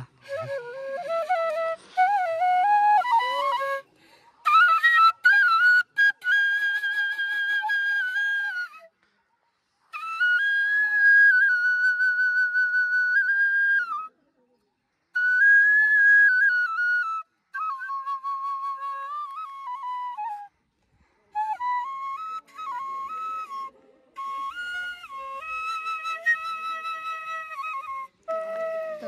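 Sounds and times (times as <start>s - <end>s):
flute playing slow melody: 0.0s - 8.9s, 9.9s - 14.2s, 15.1s - 20.5s, 21.3s - 29.0s.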